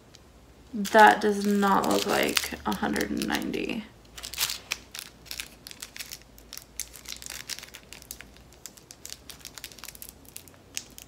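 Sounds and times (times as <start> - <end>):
plastic bag crinkling: 0.7 - 11.0.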